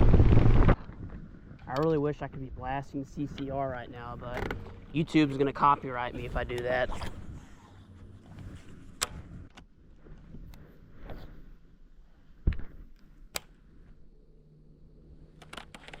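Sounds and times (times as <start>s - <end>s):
faint steady low hum: 1.2s - 16.0s.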